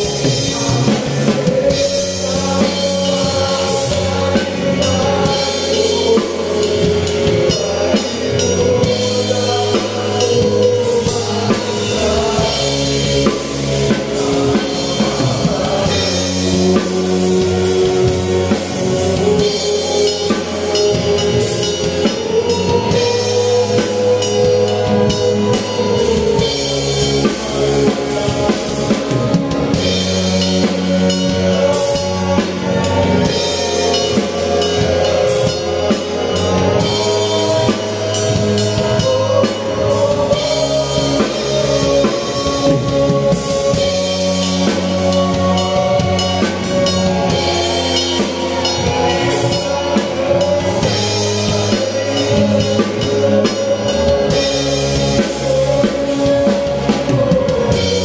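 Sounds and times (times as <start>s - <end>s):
bass guitar: 0.0s - 58.0s
drum kit beat: 0.0s - 58.0s
keyboard: 0.0s - 58.0s
man singing into a microphone: 0.0s - 58.0s.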